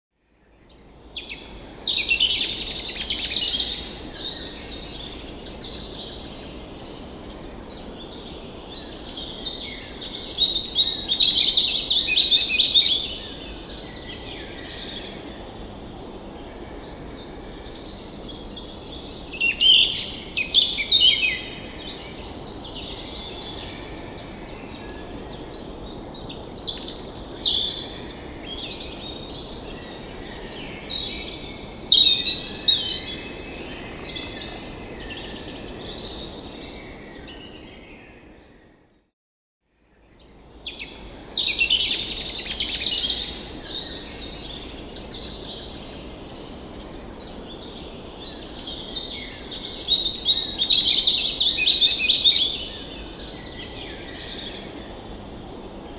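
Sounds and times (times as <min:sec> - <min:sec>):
songbirds chirping and warbling: 0:00.3 - 0:38.9, 0:39.9 - 0:55.9.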